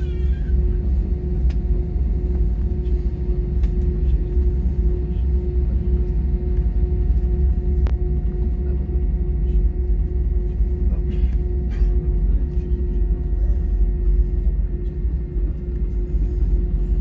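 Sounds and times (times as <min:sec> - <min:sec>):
constant hum: 0:00.0 - 0:17.0
jet engines rumbling: 0:00.0 - 0:17.0.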